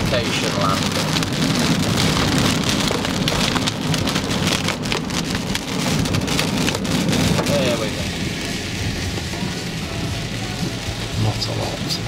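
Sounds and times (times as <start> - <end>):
car rumble on wet road: 0.0 - 12.0
heavy rain on car windshield: 0.0 - 12.0.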